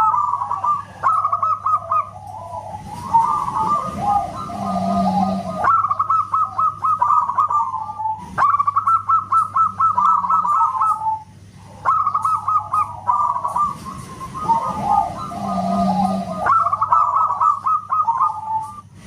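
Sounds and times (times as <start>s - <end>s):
dove cooing song: 0.0s - 19.0s.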